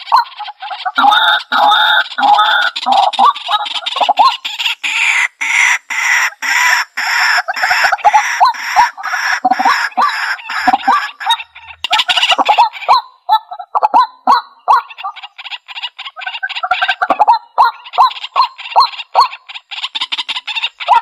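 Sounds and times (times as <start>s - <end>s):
bird harsh croaking calls: 0.0s - 21.0s.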